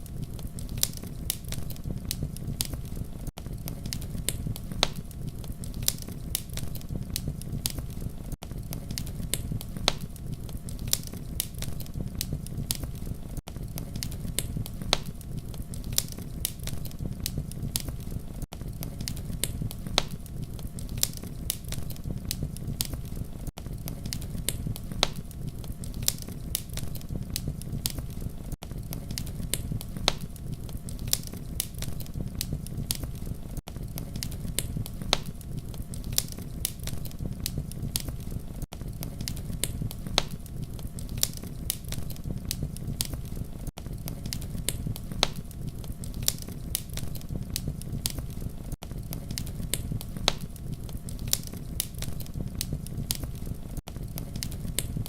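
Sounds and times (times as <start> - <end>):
low rumble of burning: 0.0 - 55.0
wood fire crackling: 0.0 - 55.0.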